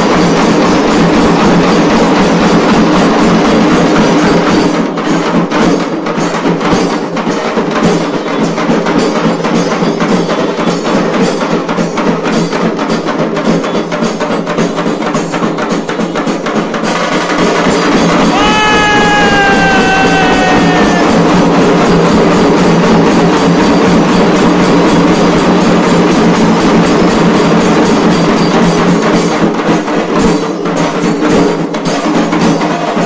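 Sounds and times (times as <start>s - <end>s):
large drums beaten with sticks: 0.0s - 33.0s
sharp cracks of small drums: 0.0s - 33.0s.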